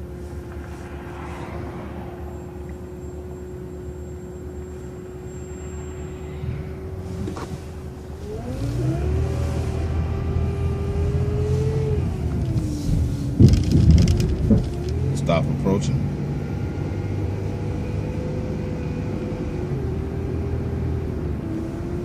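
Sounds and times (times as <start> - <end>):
bus engine whine and rumble: 0.0 - 22.0.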